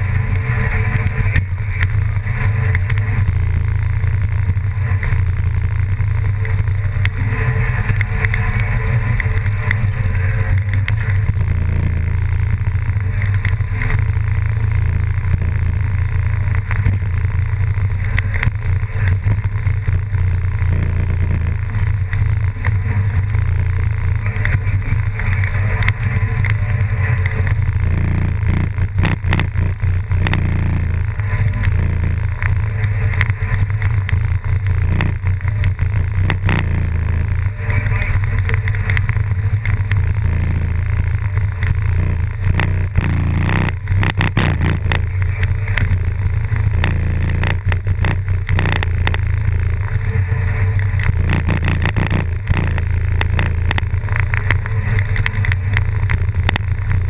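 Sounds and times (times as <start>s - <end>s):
loud low engine drone: 0.0s - 57.0s.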